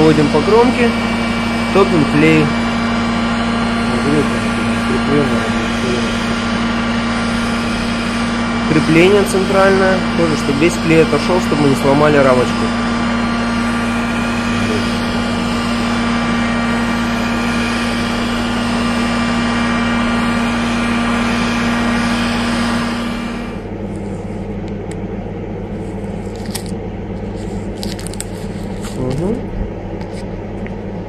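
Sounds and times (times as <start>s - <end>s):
heat gun whining and hissing: 0.0s - 25.0s
low hum: 0.0s - 31.0s.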